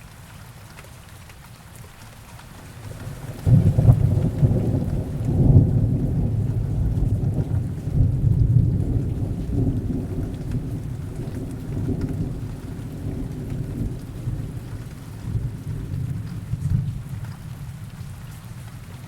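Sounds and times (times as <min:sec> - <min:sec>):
heavy rain falling: 0:00.0 - 0:19.0
distant thunder rumbling: 0:02.7 - 0:18.3.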